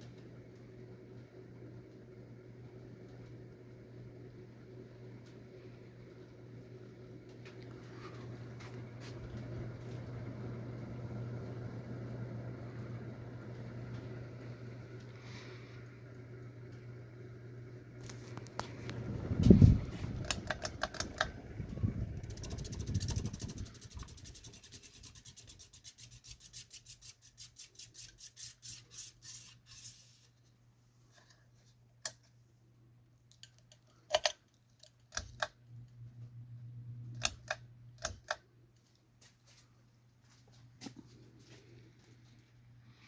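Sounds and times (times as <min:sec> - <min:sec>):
ceiling fan motor hum: 0:00.0 - 0:43.0.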